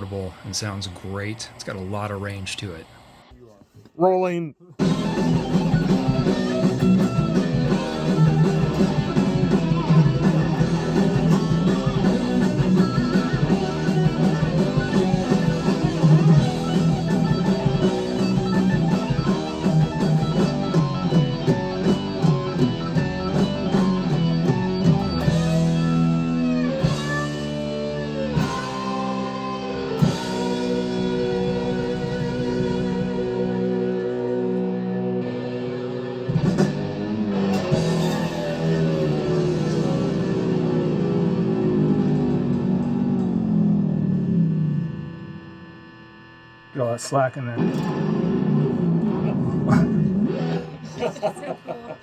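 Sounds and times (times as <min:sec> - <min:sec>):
heavy metal electric guitar: 0:00.0 - 0:03.3, 0:04.8 - 0:52.0.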